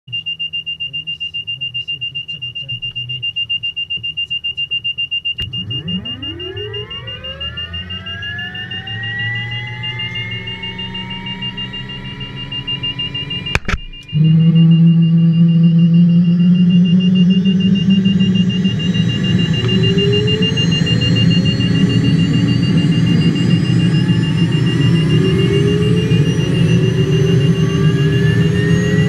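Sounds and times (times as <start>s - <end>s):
high warning tone beeping: 0.1s - 29.0s
helicopter turbine engine whine: 5.2s - 29.0s.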